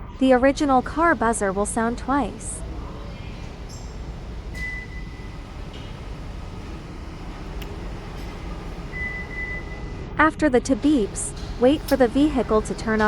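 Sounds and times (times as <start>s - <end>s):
car engine idling: 0.3s - 13.0s.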